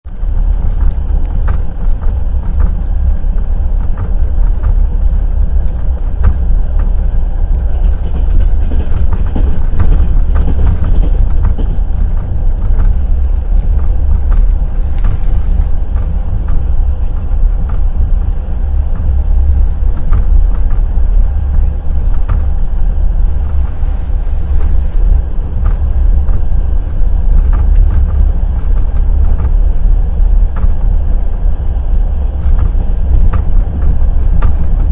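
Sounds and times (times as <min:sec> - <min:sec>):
sharp clicks from rail joints: 0:00.1 - 0:34.9
train wheels clattering over rails: 0:00.1 - 0:34.9.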